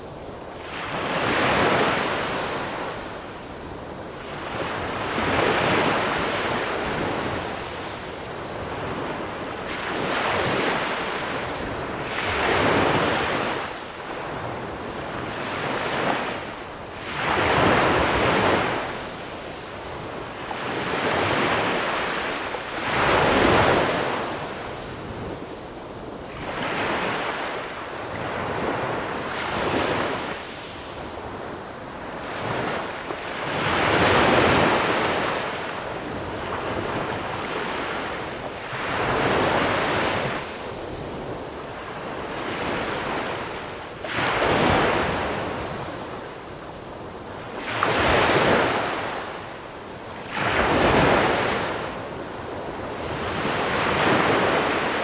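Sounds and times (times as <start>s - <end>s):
wind on microphone: 0.0s - 55.0s.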